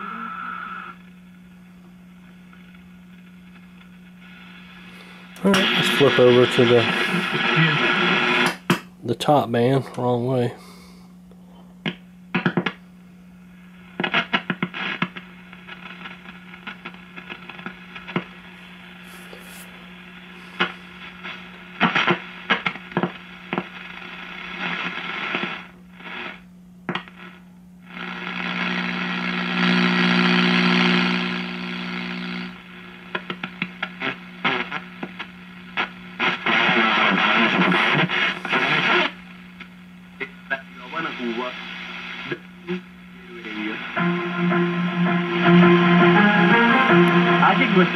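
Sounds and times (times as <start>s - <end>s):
radio static hissing and crackling: 0.0s - 47.9s.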